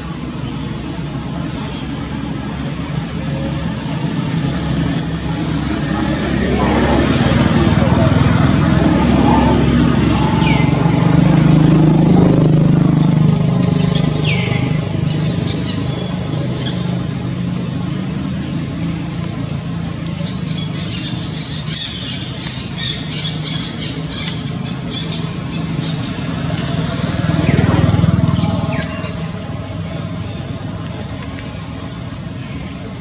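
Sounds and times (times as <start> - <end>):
vehicle engine droning past: 2.2 - 22.2, 22.8 - 32.3.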